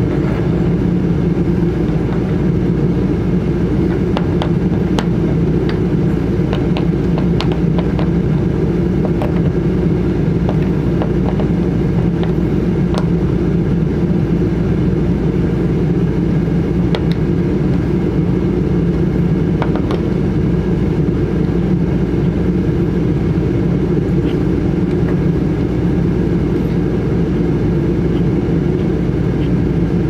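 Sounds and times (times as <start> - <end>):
low mechanical drone: 0.0 - 30.0.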